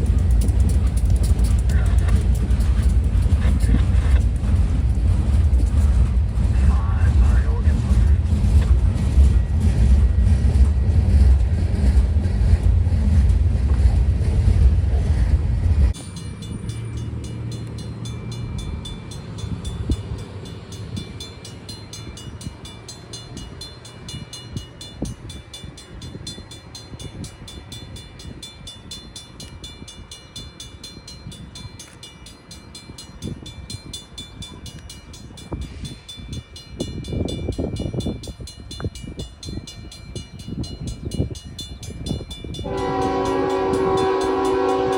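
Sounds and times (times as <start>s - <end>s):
railcars clicking: 0.0s - 44.9s
train deep rumble: 0.0s - 44.9s.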